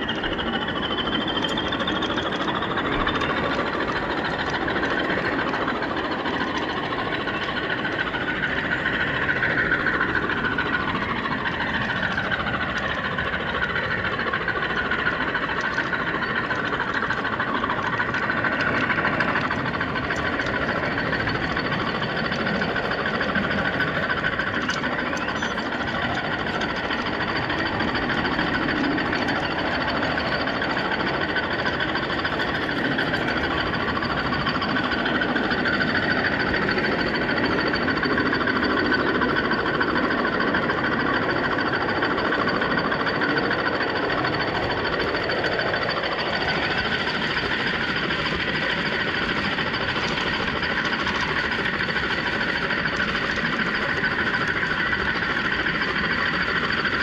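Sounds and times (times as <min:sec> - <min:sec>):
motor and gears whining: 0:00.0 - 0:57.0
train wheels rattling over rails: 0:00.0 - 0:57.0.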